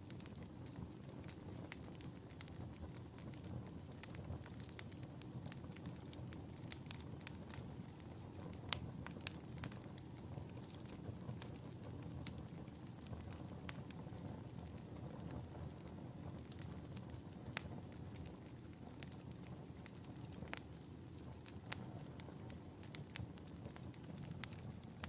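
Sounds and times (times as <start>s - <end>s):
fire popping and snapping: 0.0s - 25.0s
fire rumbling: 0.0s - 25.0s.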